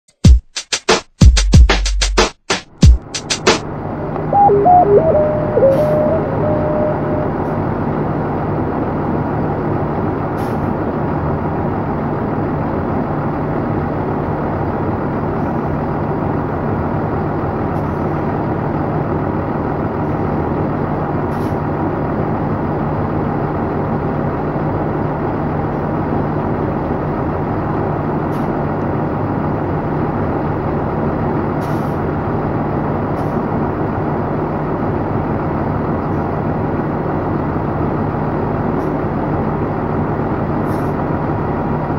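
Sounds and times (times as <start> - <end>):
bus engine running: 3.0 - 41.9.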